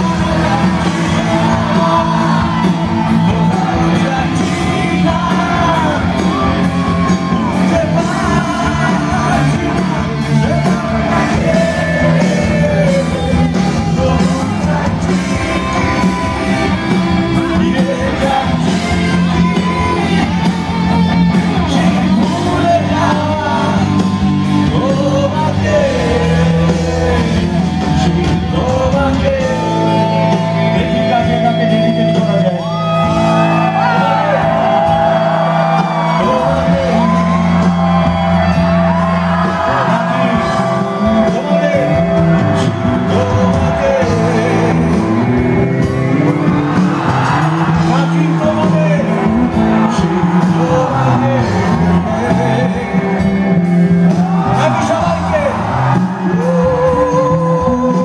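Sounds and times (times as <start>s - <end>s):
man singing and shouting: 0.0s - 20.3s, 20.9s - 45.4s, 47.0s - 58.0s
live rock band playing: 0.0s - 58.0s.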